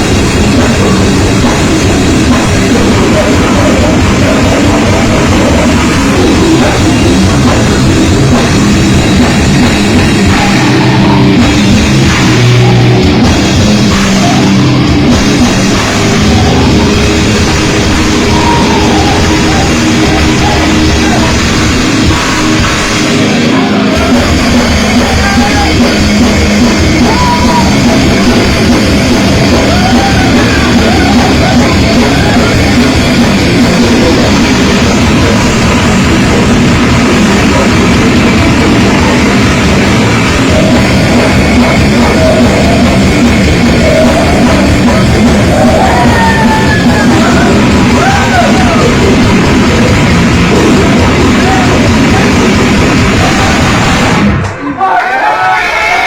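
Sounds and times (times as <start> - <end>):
heavy distorted band playing: 0.0 - 56.0
pounding drum kit: 0.0 - 56.0.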